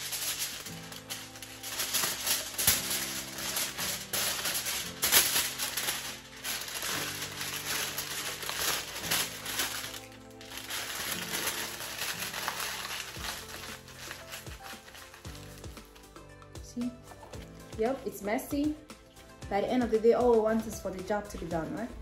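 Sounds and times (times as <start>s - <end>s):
aluminium foil crinkling: 0.0s - 22.0s
background music: 0.0s - 22.0s.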